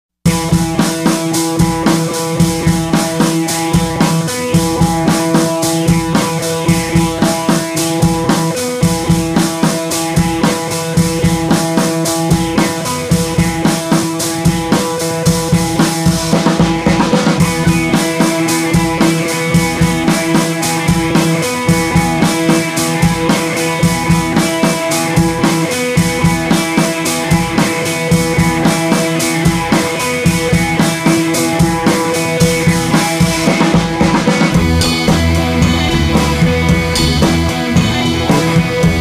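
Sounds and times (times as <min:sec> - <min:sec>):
background music with drum beat: 0:00.3 - 0:39.0.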